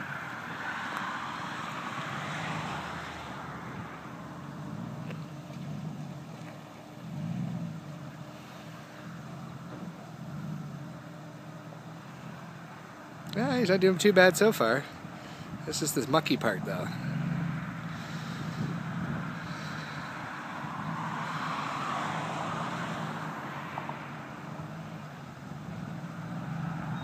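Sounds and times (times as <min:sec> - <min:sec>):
truck engine straining: 0:00.0 - 0:27.0
water rushing wash: 0:00.0 - 0:27.0.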